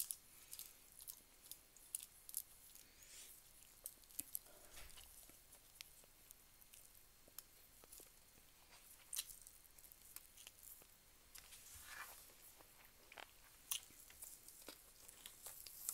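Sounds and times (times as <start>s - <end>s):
soft chewing: 0.0s - 15.9s.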